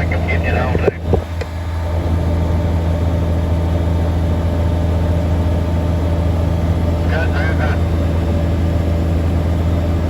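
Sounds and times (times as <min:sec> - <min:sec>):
heavy machinery engine droning: 0:00.0 - 0:10.0.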